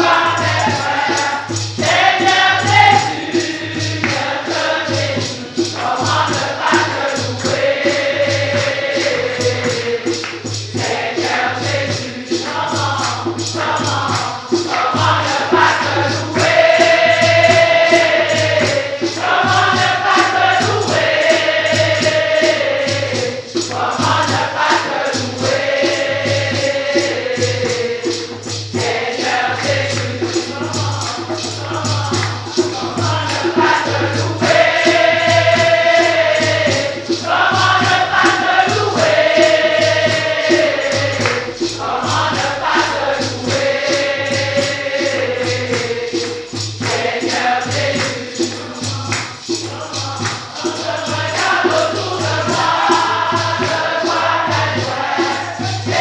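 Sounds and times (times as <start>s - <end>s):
group singing: 0.0s - 56.0s
percussive beat: 0.0s - 56.0s.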